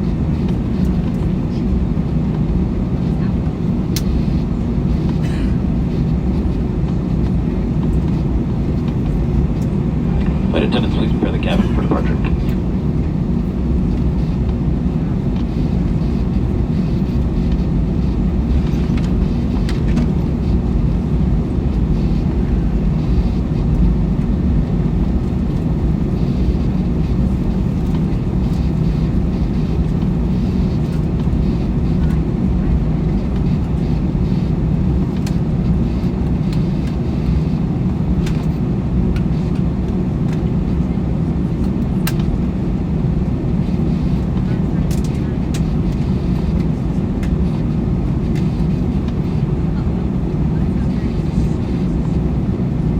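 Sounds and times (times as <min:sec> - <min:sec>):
airplane cabin rumble: 0:00.0 - 0:52.9.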